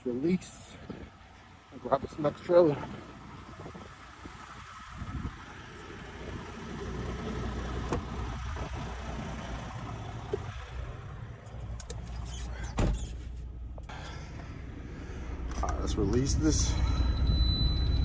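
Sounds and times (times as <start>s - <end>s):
diesel engine idling: 0.0s - 12.0s, 13.5s - 18.0s.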